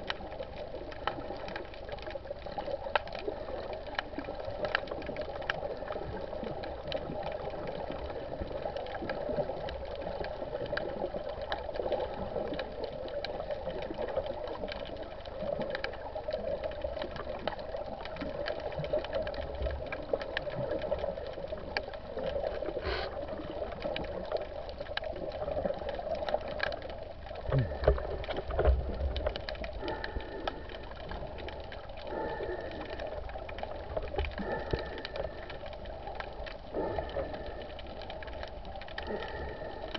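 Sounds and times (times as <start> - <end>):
fine underwater crackling: 0.0 - 39.9
underwater hum: 0.0 - 39.9.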